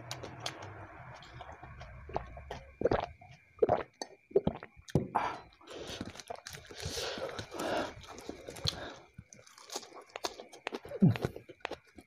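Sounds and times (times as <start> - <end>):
person gulping water: 1.2 - 11.8.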